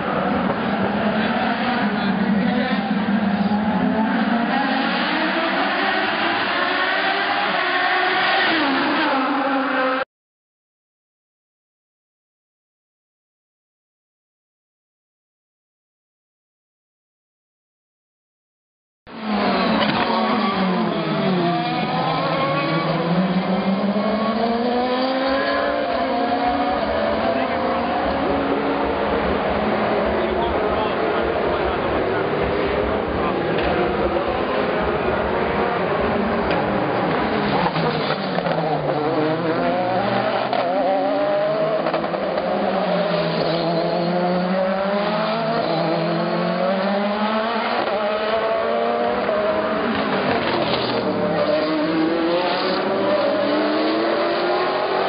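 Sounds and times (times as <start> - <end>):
race car engines: 0.0 - 10.1, 19.1 - 55.0.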